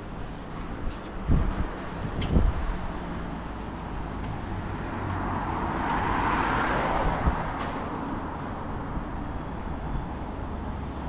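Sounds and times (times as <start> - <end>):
road vehicle passing by: 0.0 - 11.0.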